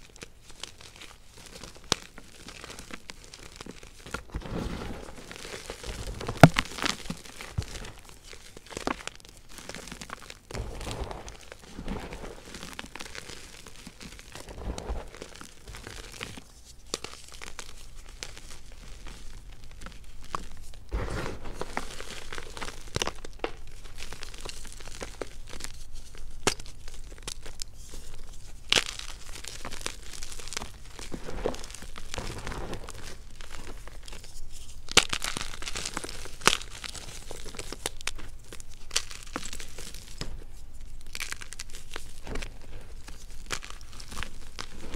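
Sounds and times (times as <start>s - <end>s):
chalk crunching by hand: 2.4s - 44.9s.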